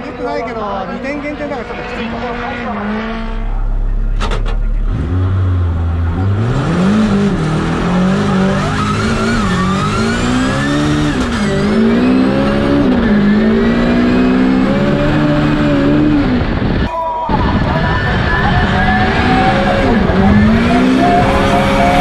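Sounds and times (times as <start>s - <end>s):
car engine revving: 0.0s - 16.9s, 17.6s - 22.0s.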